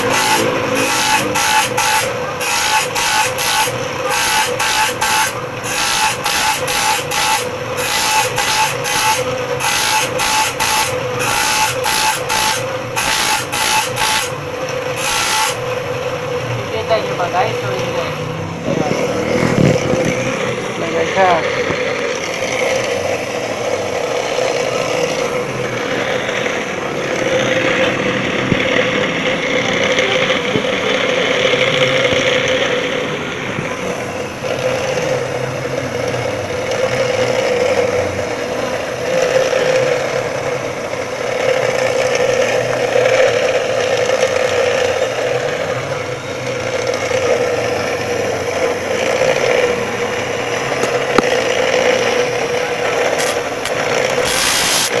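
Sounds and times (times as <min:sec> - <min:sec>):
electric grinder motor hum: 0:00.0 - 0:55.0
harsh metal grinding: 0:00.0 - 0:55.0.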